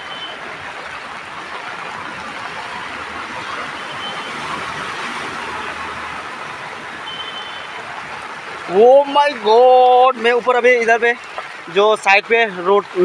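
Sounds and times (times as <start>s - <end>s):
car splashing through water: 0.0s - 13.0s.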